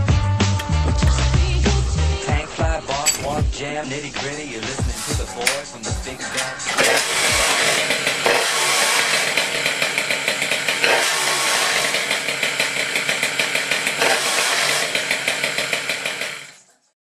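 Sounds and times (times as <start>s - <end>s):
moped engine running: 0.7s - 16.7s.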